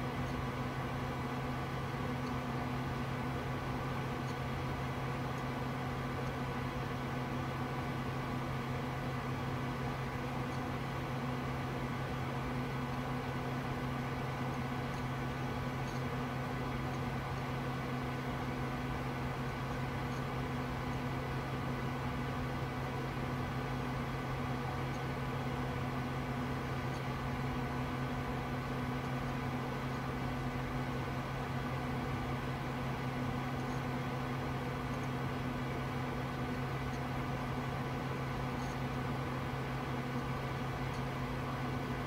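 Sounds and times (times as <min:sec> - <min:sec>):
computer fans humming: 0:00.0 - 0:42.0.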